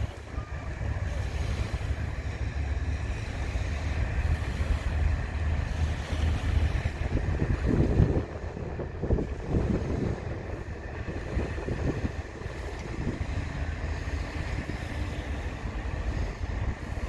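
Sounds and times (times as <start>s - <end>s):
boat engines droning: 0.0s - 17.0s
faint steady tones: 0.0s - 17.0s
wind buffeting microphone: 0.0s - 17.0s.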